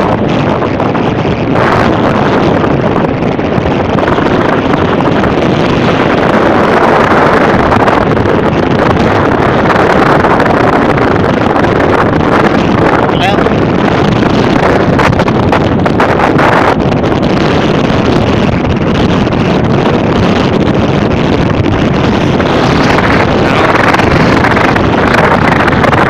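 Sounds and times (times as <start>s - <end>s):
storm wind on microphone: 0.0s - 26.0s.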